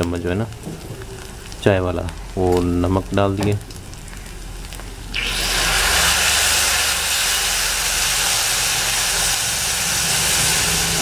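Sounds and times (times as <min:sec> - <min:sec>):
water sizzling on hot griddle: 0:00.0 - 0:11.0.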